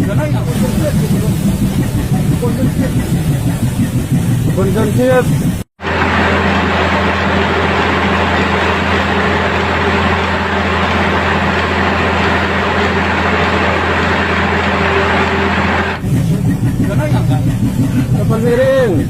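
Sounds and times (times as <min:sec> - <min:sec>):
ship engine humming: 0:00.0 - 0:19.0.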